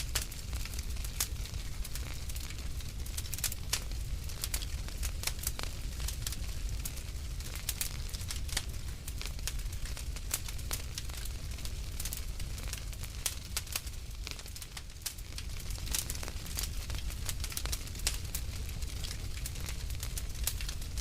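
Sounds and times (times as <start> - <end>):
fire crackles and pops: 0.0 - 21.0
low rumble of flame: 0.0 - 21.0.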